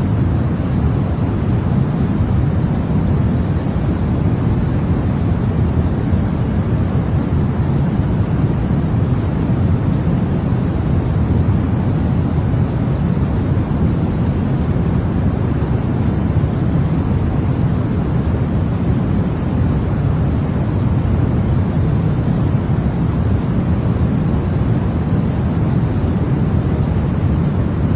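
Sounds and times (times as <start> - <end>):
deep white noise rush: 0.0 - 27.9.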